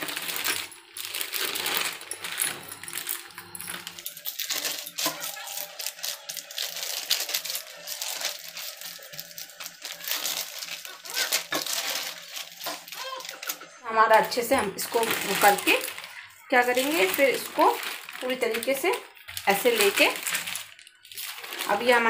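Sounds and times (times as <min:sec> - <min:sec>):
plastic sheet crinkling: 0:00.0 - 0:22.0.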